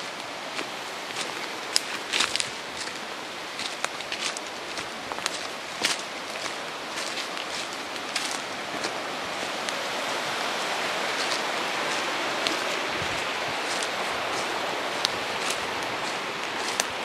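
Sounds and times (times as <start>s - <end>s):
footsteps on dry leaves: 0.0s - 17.0s
river rushing: 0.0s - 17.0s.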